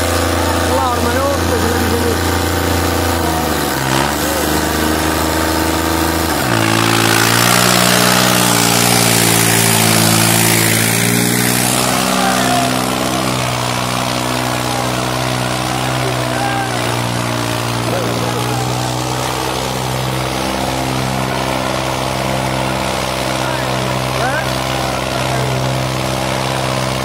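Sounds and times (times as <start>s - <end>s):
tractor diesel engine labouring: 0.0s - 27.0s.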